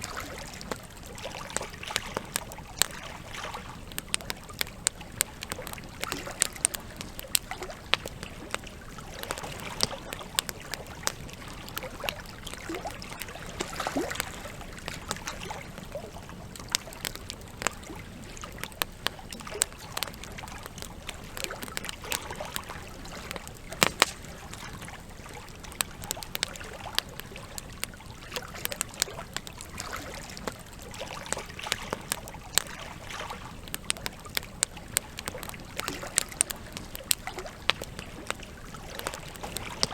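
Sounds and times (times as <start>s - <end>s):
campfire crackling and popping: 0.0s - 39.9s
trickling water: 0.0s - 39.9s.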